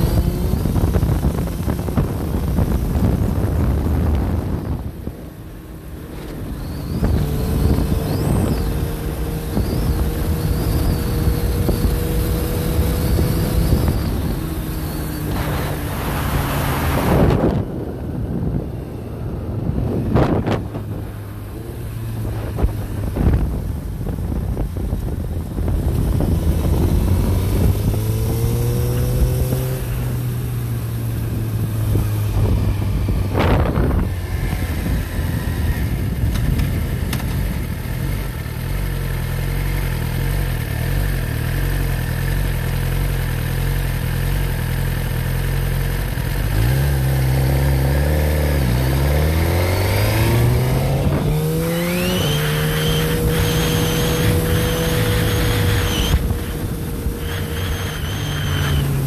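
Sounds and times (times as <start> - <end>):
wind rush: 0.0 - 37.9, 48.5 - 59.0
motorcycle engine running: 0.0 - 59.0.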